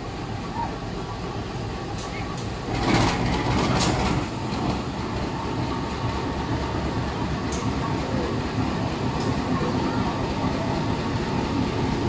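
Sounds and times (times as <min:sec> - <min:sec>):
train rumbling along track: 0:00.0 - 0:12.0.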